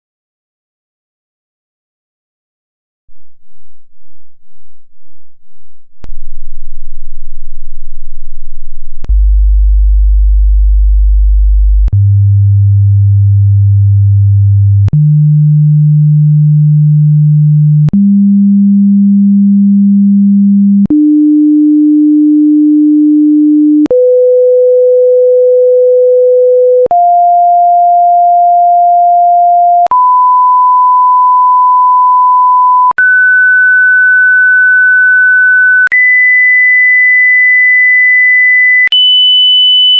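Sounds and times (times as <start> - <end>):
sine wave test tones: 3.1 - 39.9.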